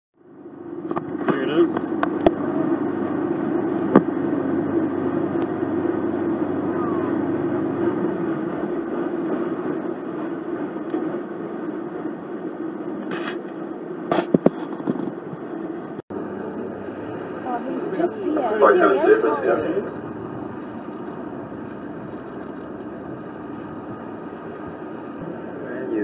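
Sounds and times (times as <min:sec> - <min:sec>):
boat engine drone: 0:00.2 - 0:26.0.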